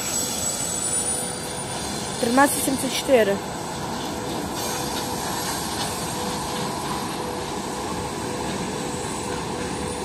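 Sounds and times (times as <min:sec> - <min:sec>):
train wagons rumbling on rails: 0:00.0 - 0:10.0.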